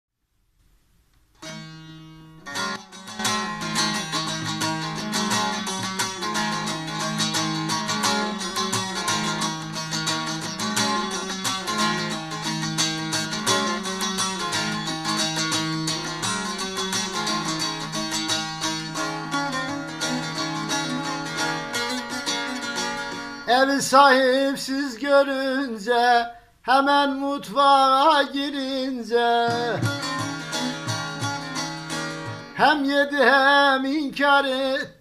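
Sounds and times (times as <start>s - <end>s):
plucked long-necked lute melody: 1.4s - 24.6s, 28.0s - 33.9s.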